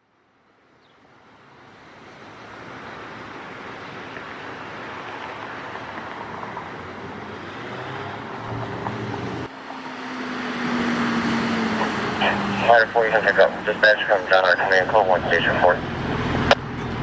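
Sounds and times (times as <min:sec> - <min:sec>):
vehicle road noise: 0:00.0 - 0:17.0
low engine hum: 0:01.1 - 0:17.0.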